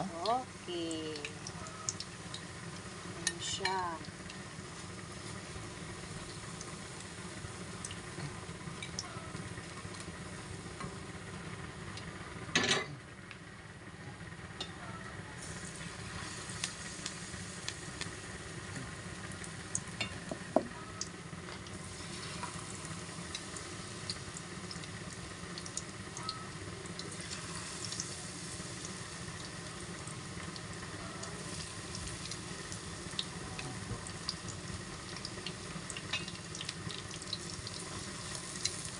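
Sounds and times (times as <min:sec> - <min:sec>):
leaves deep-frying in oil: 0:00.0 - 0:12.4, 0:14.6 - 0:38.9.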